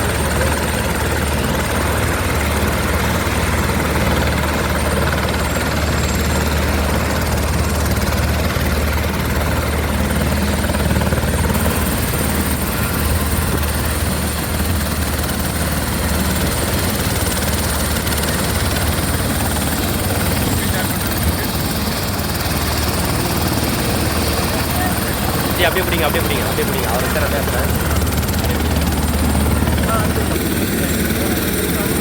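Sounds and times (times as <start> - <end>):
helicopter rotor and turbine: 0.0 - 32.0.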